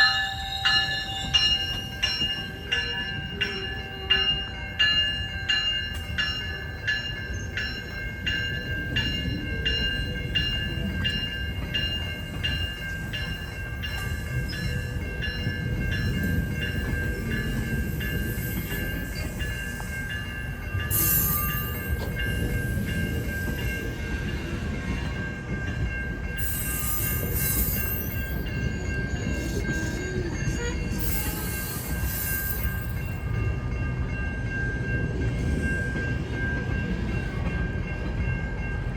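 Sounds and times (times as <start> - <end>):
level crossing bells ringing: 0.0 - 38.9
train rumbling: 0.0 - 38.9.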